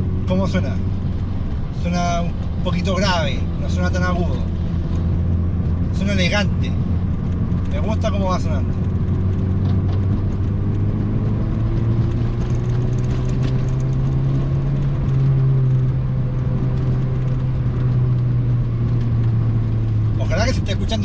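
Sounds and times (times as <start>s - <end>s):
car engine running through exhaust: 0.0s - 21.0s.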